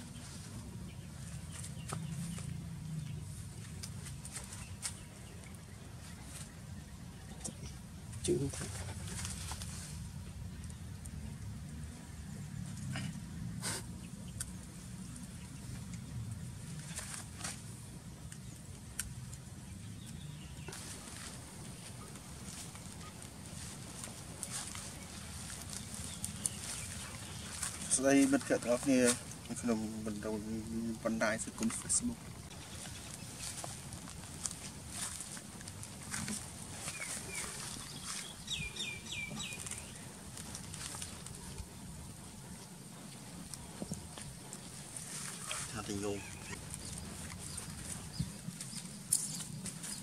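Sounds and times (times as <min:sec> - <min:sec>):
outdoor background noise: 0:00.0 - 0:50.0.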